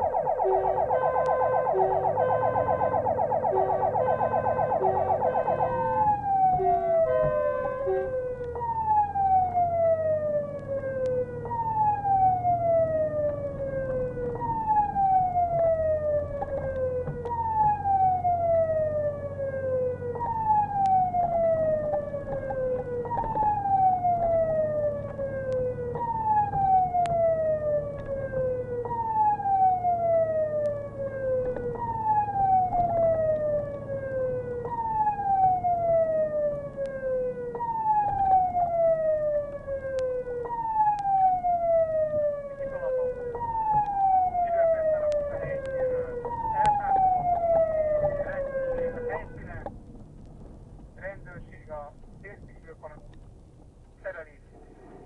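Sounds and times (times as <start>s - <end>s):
fire engine siren wailing: 0.0s - 49.7s.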